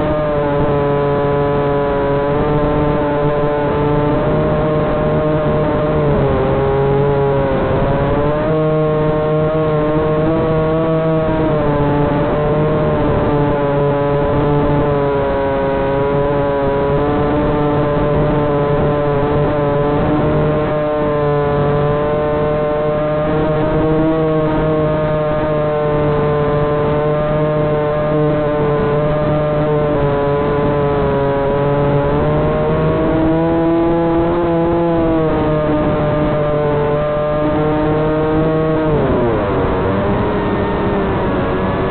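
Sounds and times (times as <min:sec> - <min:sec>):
electric motor whine: 0:00.0 - 0:41.9.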